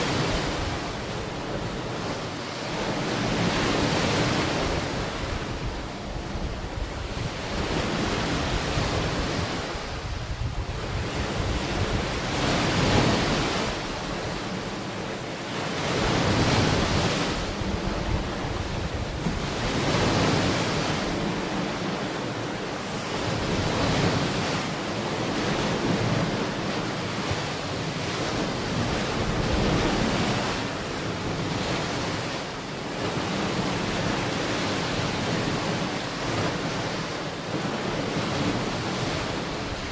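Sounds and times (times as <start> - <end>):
ocean waves breaking on shore: 0.0 - 39.9
wind rumble on microphone: 0.0 - 39.9.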